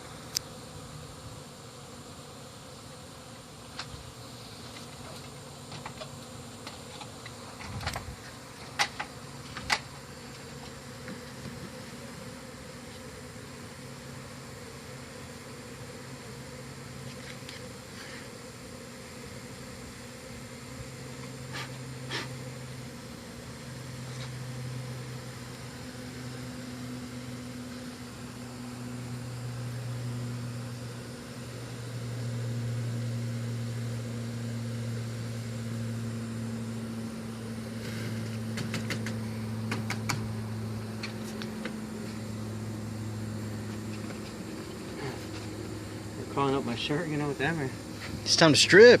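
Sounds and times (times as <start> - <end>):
honey bees buzzing: 0.0 - 49.0.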